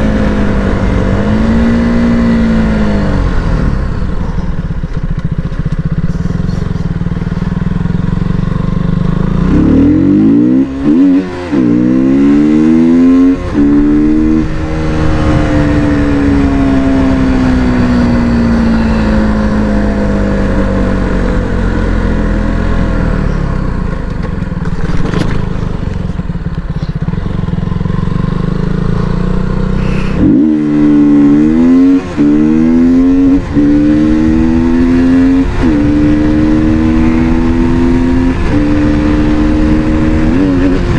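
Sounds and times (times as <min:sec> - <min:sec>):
motorcycle accelerating through gears: 0:00.0 - 0:40.9.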